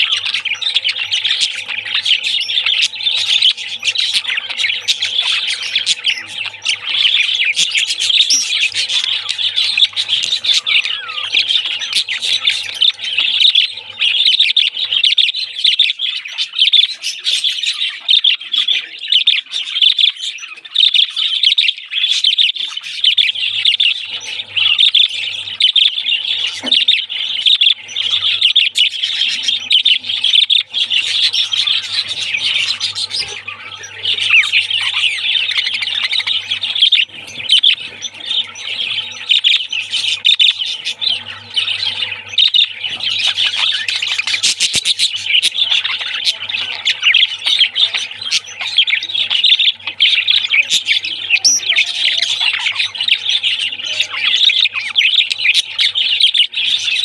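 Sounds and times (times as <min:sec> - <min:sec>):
flock of budgerigars chattering: 0:00.0 - 0:57.0.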